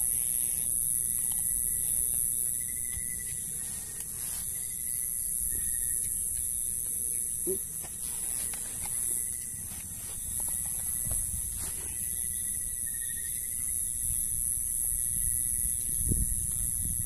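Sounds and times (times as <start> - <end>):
night insects chorus: 0.0 - 17.0.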